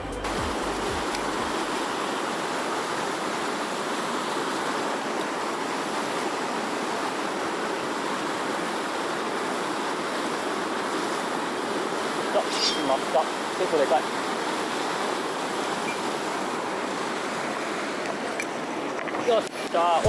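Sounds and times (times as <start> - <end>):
stream water running over rocks: 0.2 - 20.0.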